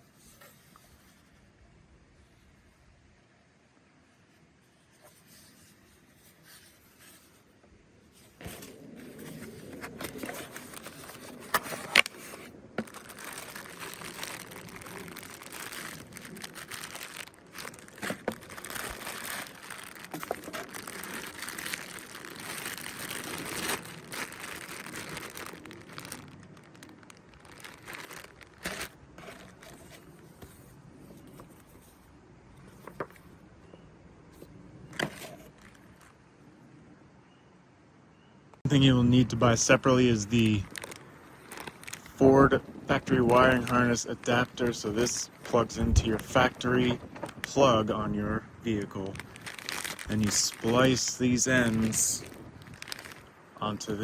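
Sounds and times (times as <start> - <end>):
crinkling plastic and cardboard: 4.8 - 33.5, 34.4 - 36.2, 39.1 - 54.0.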